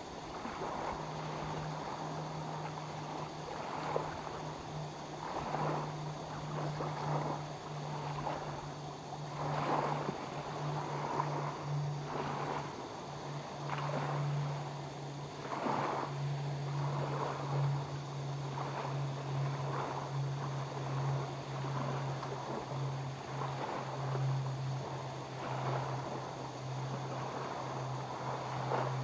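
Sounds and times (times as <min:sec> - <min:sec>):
steady low hum: 0:00.0 - 0:29.0
water lapping at shore: 0:00.0 - 0:29.0
wind: 0:00.0 - 0:29.0.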